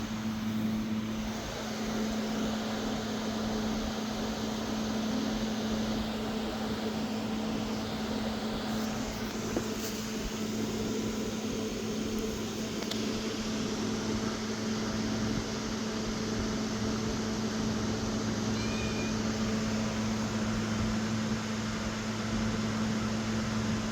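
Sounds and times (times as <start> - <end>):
constant hiss: 0.0 - 23.8
low mechanical hum: 0.0 - 23.9.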